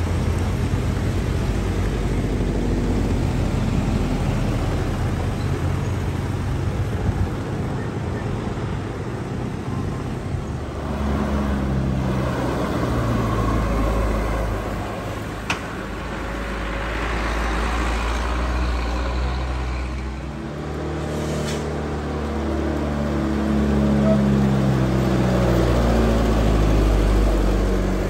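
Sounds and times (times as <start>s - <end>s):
diesel truck engines running: 0.0s - 28.0s
road traffic: 0.0s - 28.0s.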